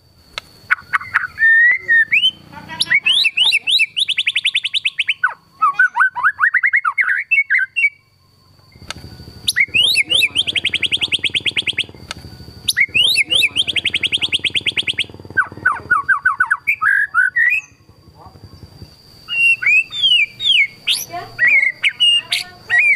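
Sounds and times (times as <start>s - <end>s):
bird singing with fast trills: 0.6s - 22.9s.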